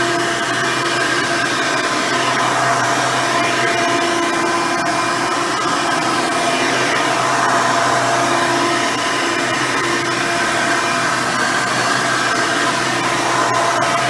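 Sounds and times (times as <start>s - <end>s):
upright vacuum cleaner whining: 1.7s - 14.0s.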